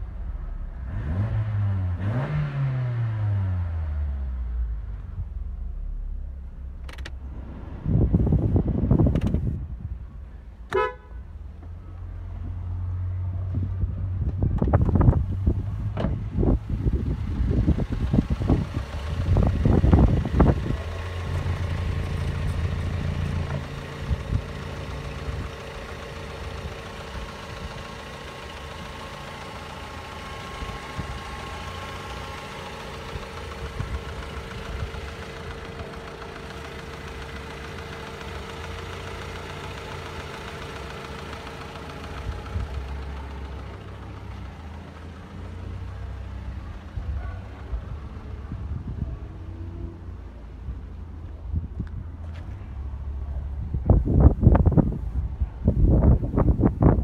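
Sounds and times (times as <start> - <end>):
car engine idling: 0.0 - 2.2, 3.5 - 57.0.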